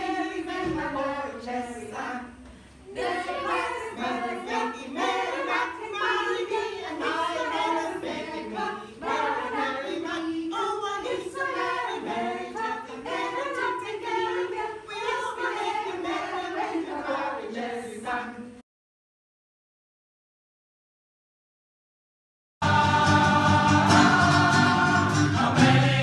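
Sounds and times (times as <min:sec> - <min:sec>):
vocal group singing unaccompanied: 0:00.0 - 0:18.6, 0:22.6 - 0:26.0.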